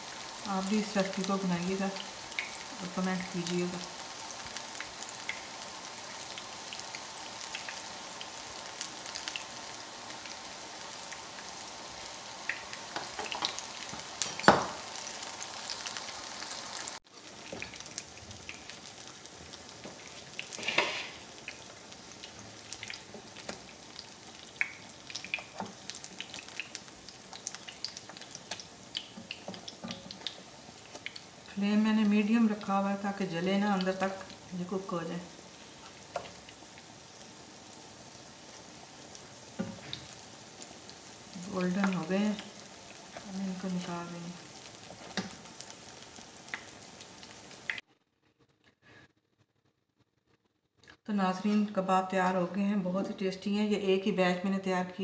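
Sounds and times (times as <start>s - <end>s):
cutlets sizzling in oil: 0.0s - 47.8s.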